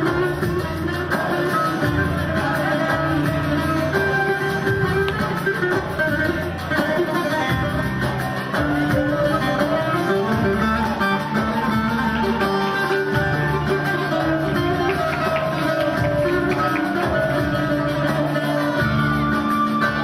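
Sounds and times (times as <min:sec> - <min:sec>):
plucked string instrumental music: 0:00.0 - 0:20.0.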